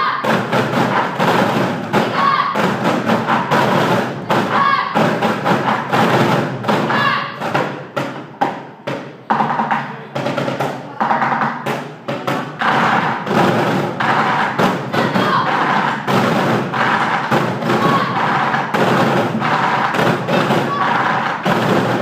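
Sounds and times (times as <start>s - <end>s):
children beating sticks in rhythm: 0.0s - 22.0s.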